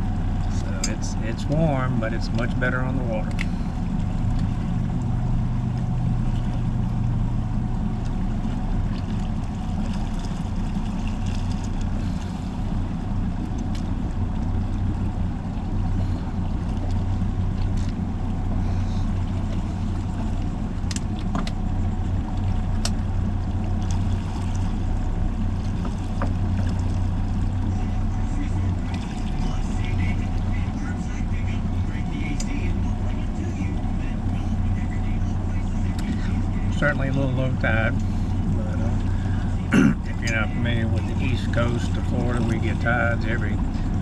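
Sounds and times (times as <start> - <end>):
outboard boat engine humming: 0.0 - 44.0.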